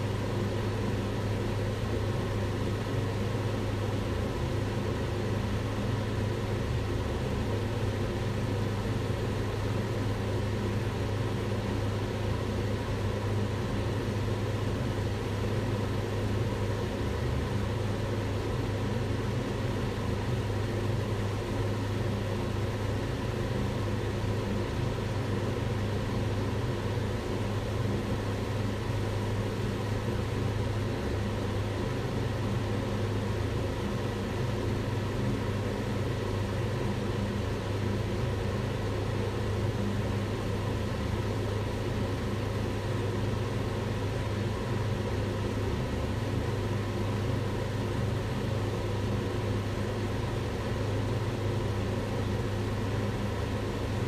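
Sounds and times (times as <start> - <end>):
extractor fan humming: 0.0 - 54.0.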